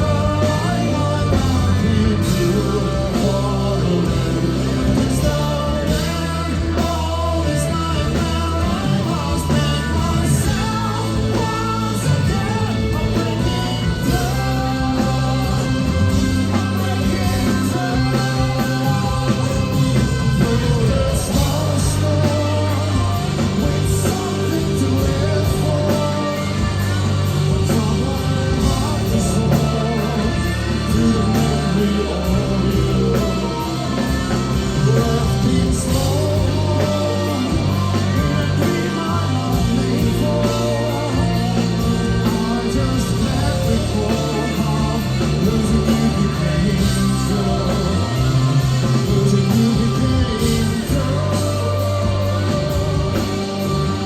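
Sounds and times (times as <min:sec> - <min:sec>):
live rock band: 0:00.0 - 0:54.0
person singing: 0:00.0 - 0:54.0.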